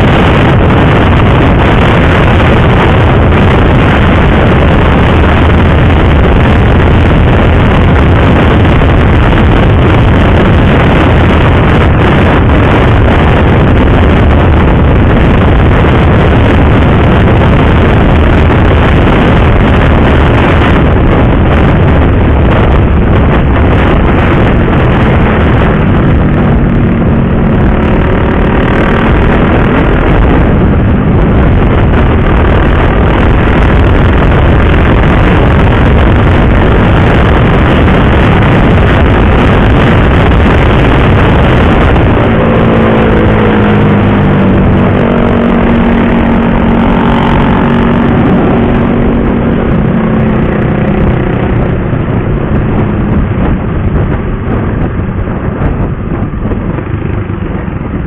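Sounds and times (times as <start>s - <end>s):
motorcycle engine drone: 0.0s - 58.0s
wind rush on microphone: 0.0s - 58.0s.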